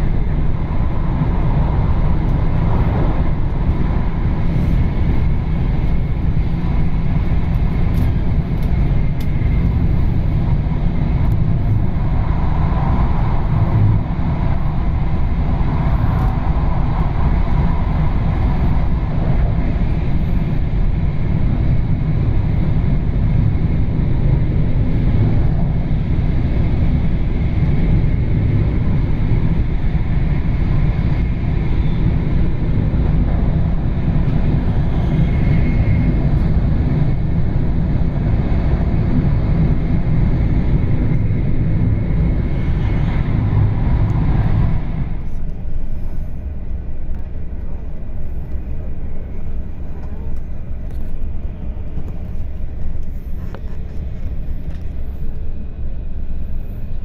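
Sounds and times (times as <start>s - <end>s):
air rushing past train: 0.0s - 57.0s
train wheels rumbling on rail: 0.0s - 57.0s.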